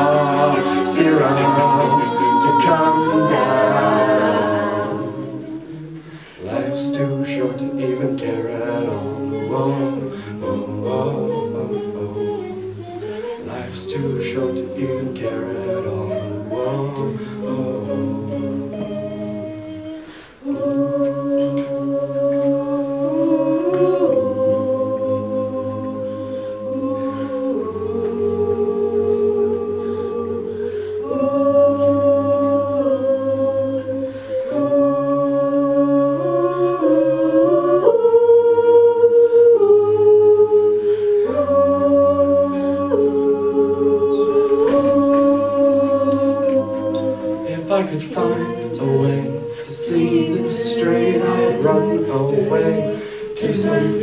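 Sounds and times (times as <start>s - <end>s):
a cappella group singing: 0.0s - 54.0s.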